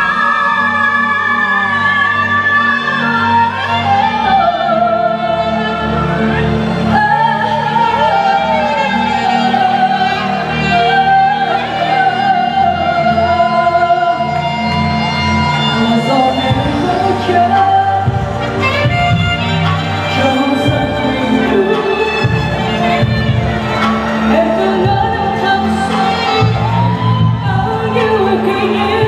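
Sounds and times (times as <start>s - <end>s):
band accompaniment: 0.0s - 29.0s
woman singing into microphone: 0.0s - 29.0s.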